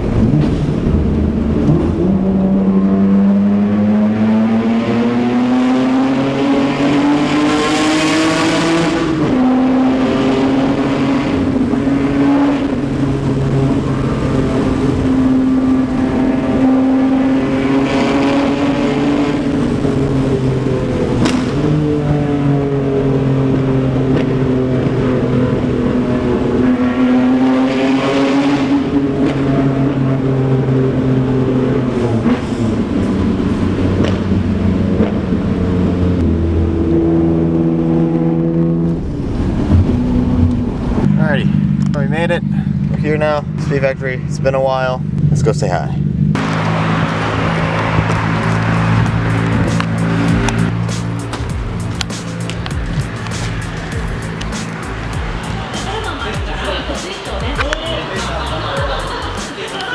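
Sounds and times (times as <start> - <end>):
car engine revving through gears: 0.0 - 43.6, 46.1 - 59.9.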